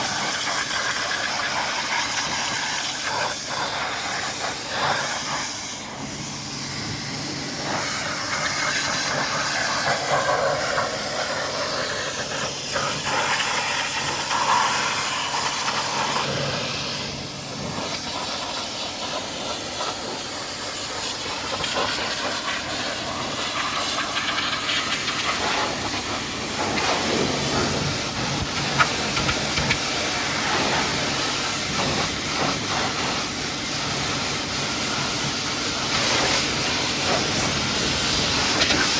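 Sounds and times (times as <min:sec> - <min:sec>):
pressure washer water spray: 0:00.0 - 0:38.9.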